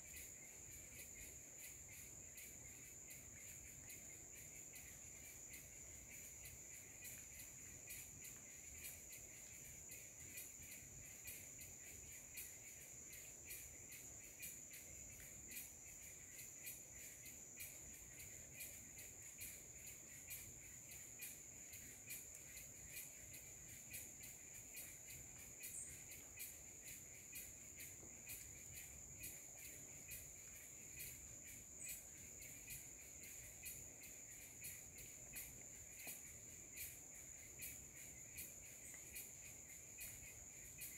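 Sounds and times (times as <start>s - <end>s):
insects trilling: 0.0s - 40.9s
low insect buzz: 0.0s - 40.9s.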